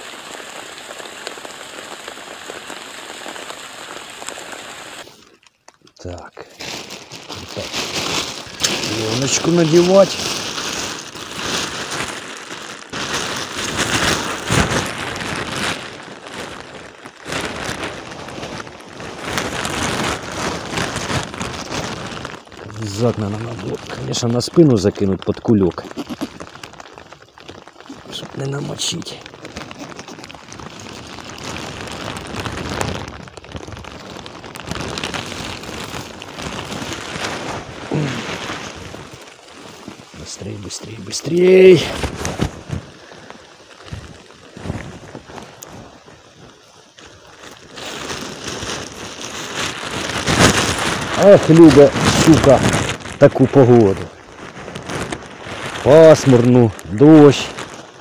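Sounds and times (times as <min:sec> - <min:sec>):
plastic crackling rustles: 0:00.0 - 0:58.0
plastic rain cape crinkling: 0:00.0 - 0:58.0
rain pattering: 0:00.0 - 0:58.0.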